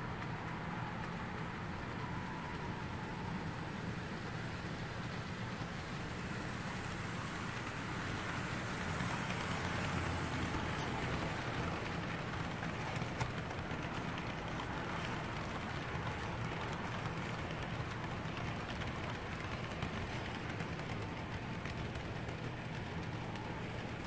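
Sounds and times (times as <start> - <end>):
light track clicks: 0.0 - 24.0
model train motor humming: 1.0 - 24.0.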